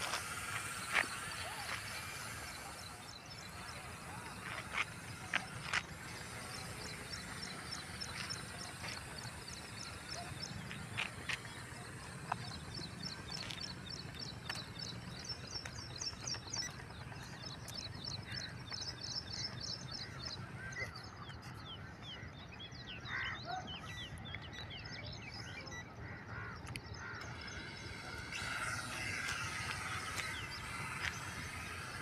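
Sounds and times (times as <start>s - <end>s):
birds chirping: 0.0s - 32.0s
steady low hum: 0.0s - 32.0s.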